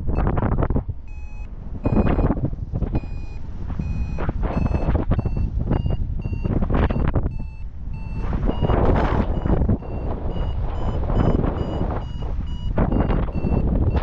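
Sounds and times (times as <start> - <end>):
variometer beeping: 0.0 - 14.0
wind buffeting microphone: 0.0 - 14.0.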